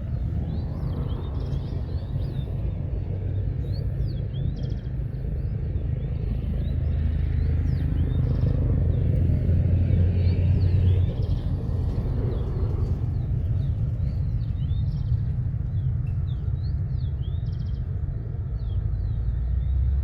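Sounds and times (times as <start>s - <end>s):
jet engines rumbling: 0.0s - 19.2s.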